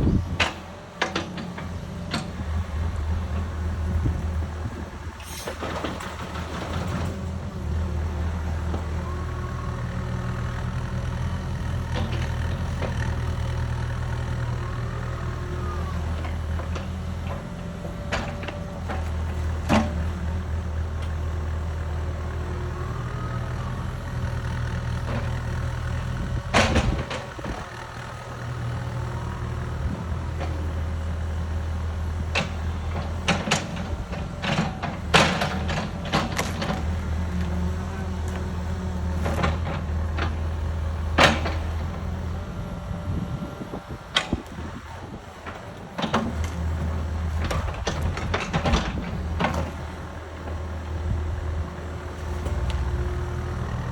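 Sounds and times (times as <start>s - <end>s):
diesel engine running: 0.0s - 53.9s
hydraulics whining: 0.0s - 53.9s.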